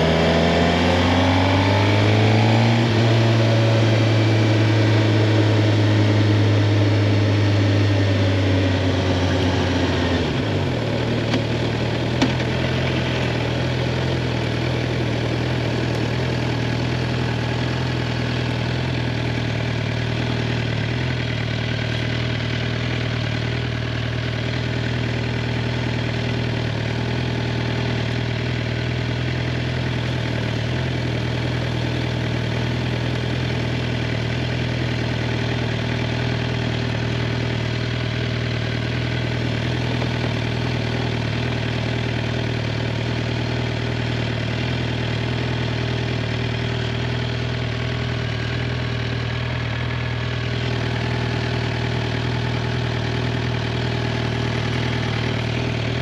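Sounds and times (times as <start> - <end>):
motorcycle engine running steadily: 0.0 - 56.0.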